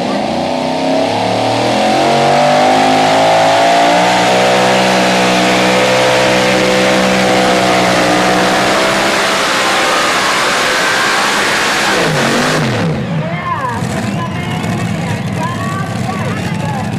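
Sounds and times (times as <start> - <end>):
truck engine at full throttle: 0.0 - 16.9.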